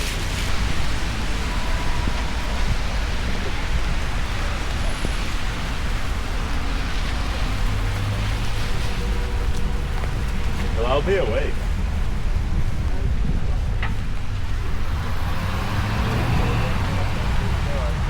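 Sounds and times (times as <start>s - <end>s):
rain: 0.0s - 18.0s
road traffic: 0.0s - 18.0s
vehicle passing with low rumble: 0.0s - 18.0s.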